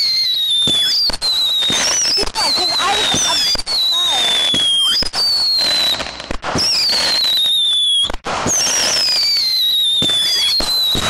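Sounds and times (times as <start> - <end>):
whistling fireworks: 0.0 - 11.0.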